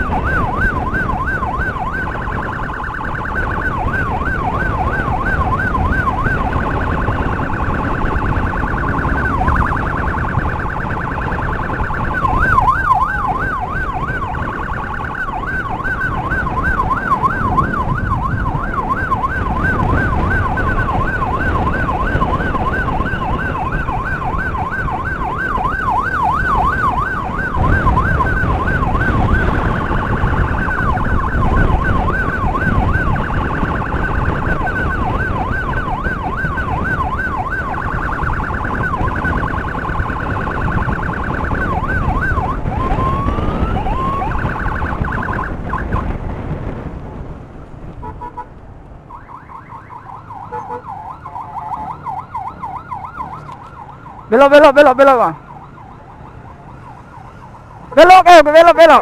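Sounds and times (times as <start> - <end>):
electronic siren yelping: 0.0 - 46.1, 48.0 - 59.0
road and wind rumble: 0.0 - 59.0.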